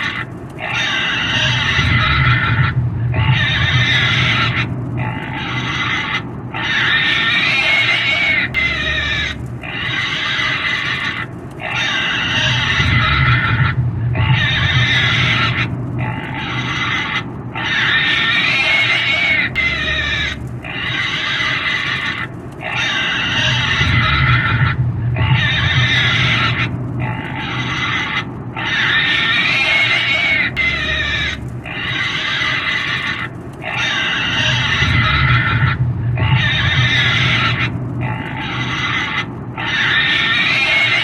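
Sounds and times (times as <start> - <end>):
low rumble: 0.0 - 41.0
pig squealing: 0.0 - 41.0.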